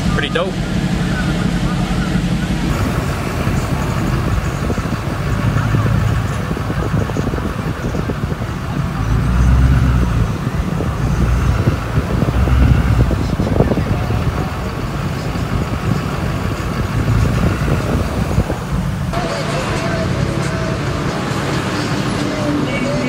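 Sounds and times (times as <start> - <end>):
diesel truck exhaust rumble: 0.0 - 23.0.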